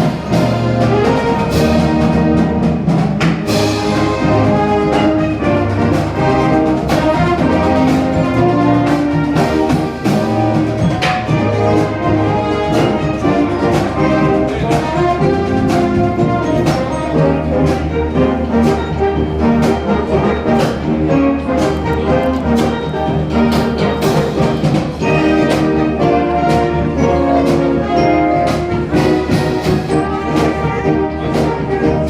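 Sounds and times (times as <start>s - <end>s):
brass melody: 0.0s - 32.0s
percussion steady beat: 0.0s - 32.0s.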